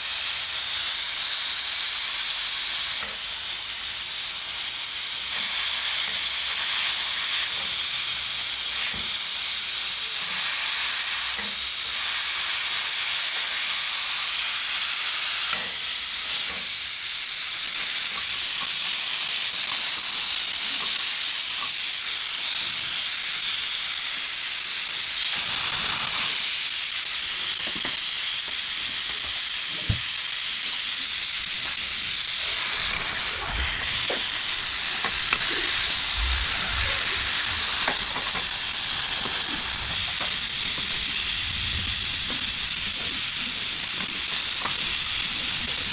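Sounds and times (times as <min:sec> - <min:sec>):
steam hissing from valve: 0:00.0 - 0:45.9.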